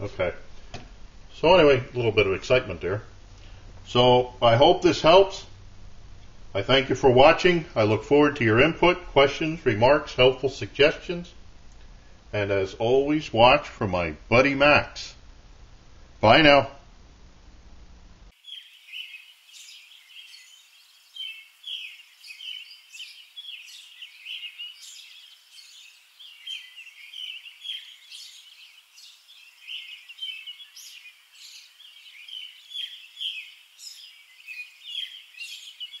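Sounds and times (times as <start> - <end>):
songbirds chirping: 0.0 - 17.1, 18.2 - 36.0.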